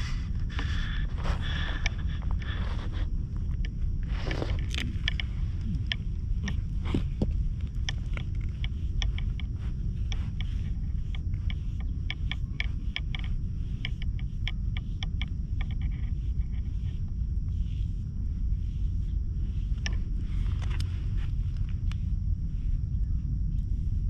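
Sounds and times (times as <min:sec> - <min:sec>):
brush scratching cat fur: 0:00.0 - 0:24.0
steady low rumble: 0:00.0 - 0:24.0.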